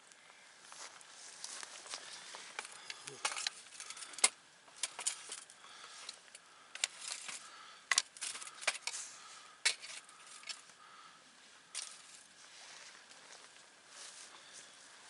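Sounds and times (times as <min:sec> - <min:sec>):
low fire hiss: 0:00.0 - 0:15.0.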